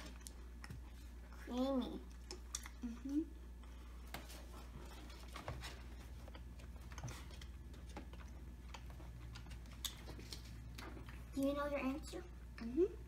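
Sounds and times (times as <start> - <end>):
children chewing candy: 0.0 - 5.2, 5.9 - 11.4
low room hum: 0.0 - 13.0.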